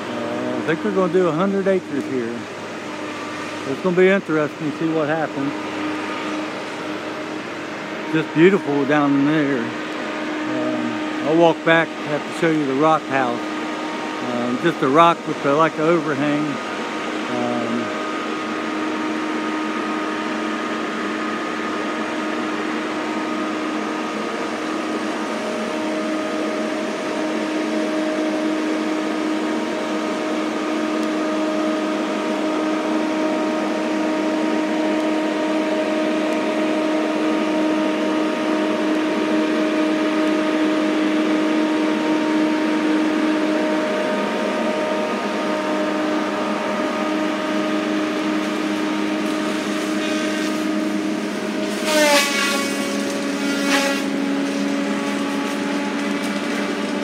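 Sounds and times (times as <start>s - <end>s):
heavy machine engine droning: 0.0s - 57.0s.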